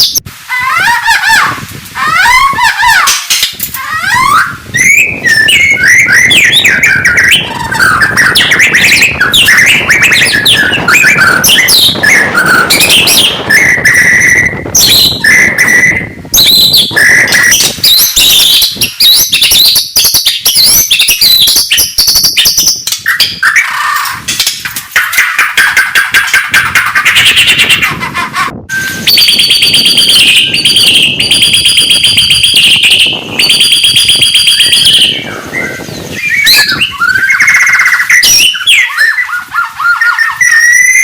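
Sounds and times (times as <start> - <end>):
songbird singing whistles: 3.3 - 24.0, 25.1 - 27.9, 28.7 - 41.0.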